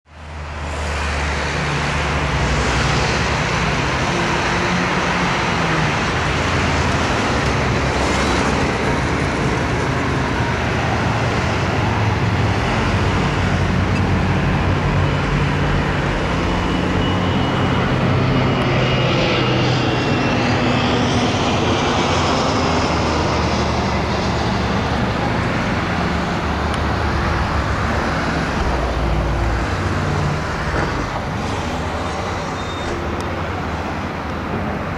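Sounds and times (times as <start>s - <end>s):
jet engine rushing: 0.2s - 34.9s.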